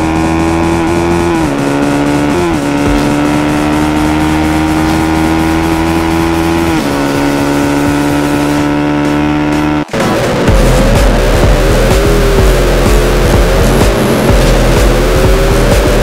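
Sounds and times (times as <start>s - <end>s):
motorcycle engine at high revs: 0.0s - 16.0s
wind and road noise: 0.0s - 16.0s.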